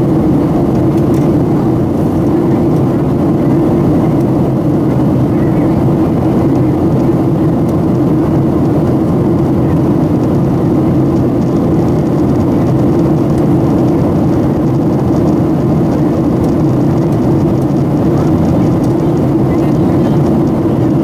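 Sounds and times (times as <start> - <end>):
airplane cabin drone: 0.0 - 21.0.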